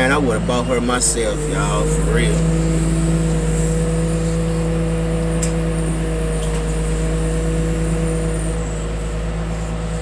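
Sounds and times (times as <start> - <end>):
heavy machine engine running: 0.0 - 10.0.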